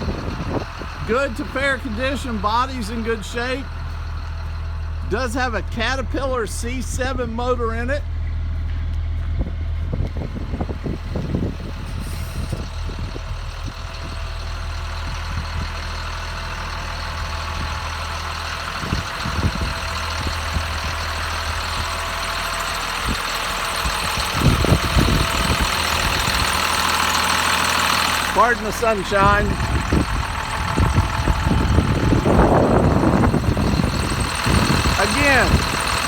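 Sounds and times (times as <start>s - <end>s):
diesel bus engine idling: 0.0s - 36.0s.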